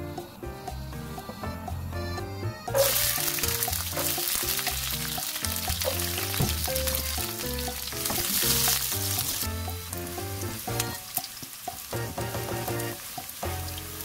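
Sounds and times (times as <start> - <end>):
background music: 0.0 - 14.0
garlic sizzling in hot oil: 2.8 - 14.0.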